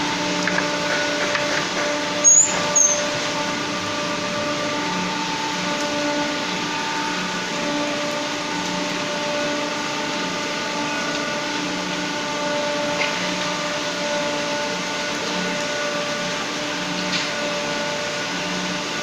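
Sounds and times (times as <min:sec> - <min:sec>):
industrial washing machines running: 0:00.0 - 0:19.0.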